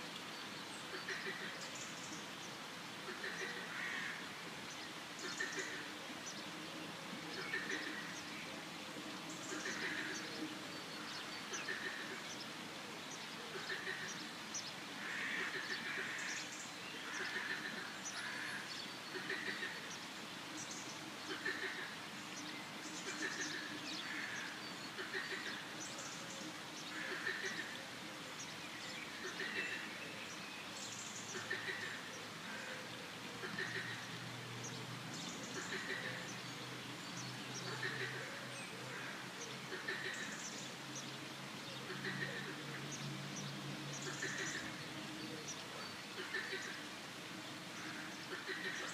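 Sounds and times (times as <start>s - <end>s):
steady background hiss: 0.0s - 48.9s
birds calling: 0.2s - 6.5s, 7.2s - 8.5s, 9.2s - 48.9s.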